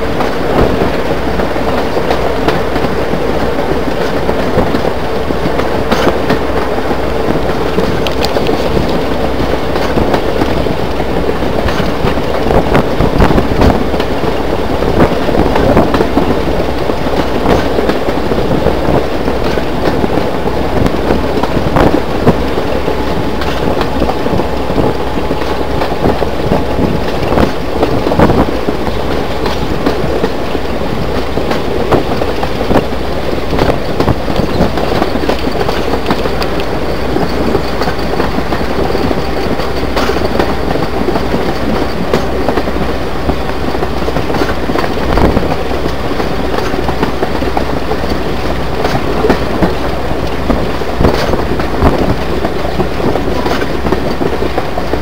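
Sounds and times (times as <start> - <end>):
train wheels clicking on track: 0.0 - 55.0
wind rushing on microphone: 0.0 - 55.0.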